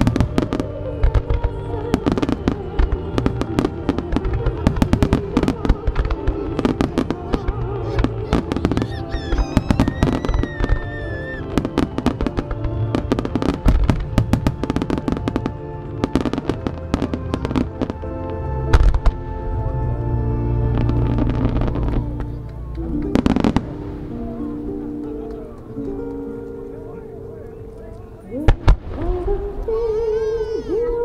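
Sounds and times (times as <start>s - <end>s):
fireworks bursting and crackling: 0.0s - 26.7s, 27.9s - 31.0s.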